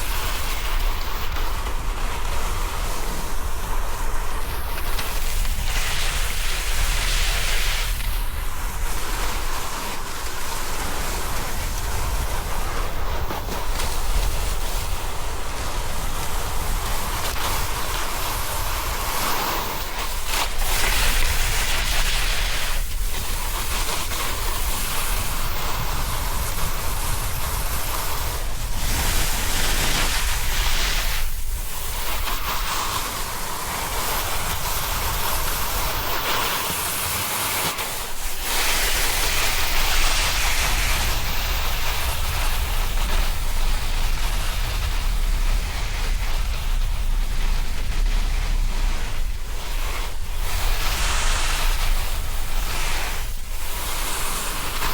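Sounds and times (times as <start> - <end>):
snowboard scraping over snow: 0.0 - 54.9
wind buffeting microphone: 0.0 - 54.9.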